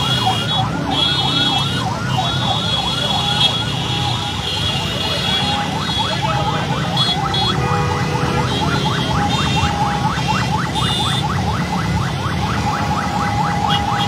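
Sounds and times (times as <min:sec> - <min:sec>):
road traffic rumble: 0:00.0 - 0:14.0
siren yelping: 0:00.0 - 0:14.0.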